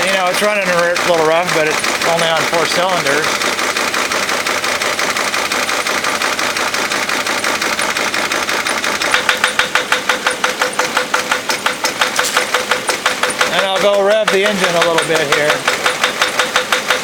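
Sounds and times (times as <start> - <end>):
diesel engine idling rough: 0.0 - 17.0
regular sharp beat: 0.0 - 17.0.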